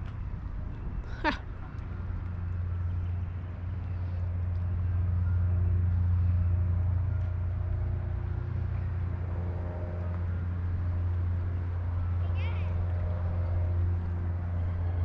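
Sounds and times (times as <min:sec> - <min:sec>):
engine hum passing by: 0:00.0 - 0:15.0.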